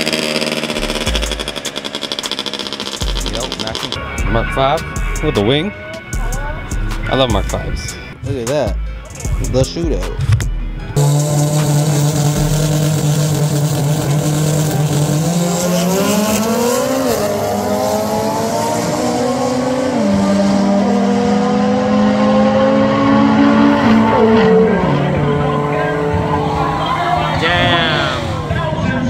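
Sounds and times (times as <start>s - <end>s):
race car engines accelerating: 0.0s - 8.3s, 10.2s - 29.0s.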